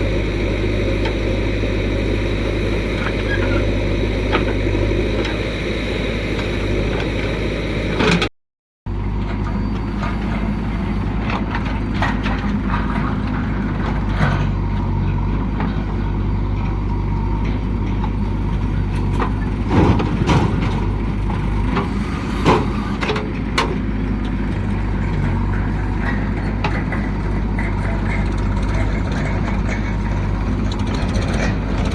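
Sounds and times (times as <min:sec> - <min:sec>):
diesel engine droning: 0:00.0 - 0:08.3, 0:08.9 - 0:31.9.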